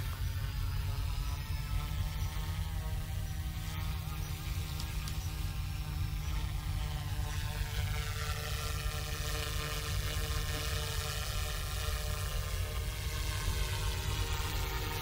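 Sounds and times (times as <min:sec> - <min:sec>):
rc helicopter rotors whirring: 0:00.0 - 0:15.0.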